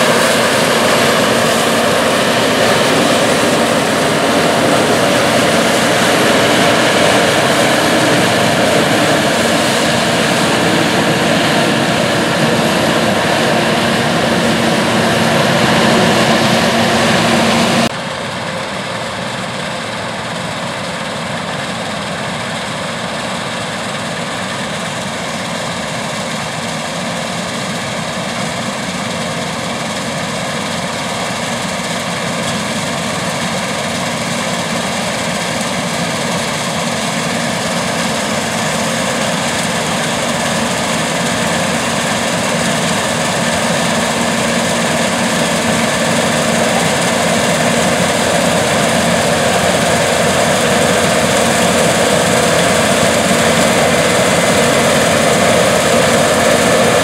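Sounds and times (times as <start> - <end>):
combine harvester machine drone: 0.0 - 57.0.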